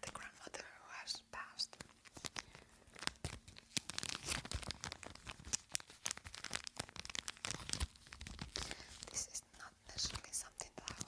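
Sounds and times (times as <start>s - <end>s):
packaging crinkling: 1.7s - 11.0s.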